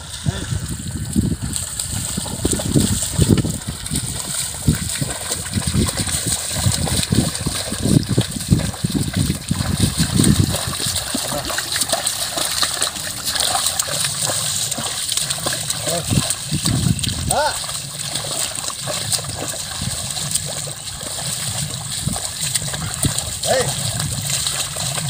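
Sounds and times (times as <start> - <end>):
hooves splashing through mud: 0.0 - 25.0.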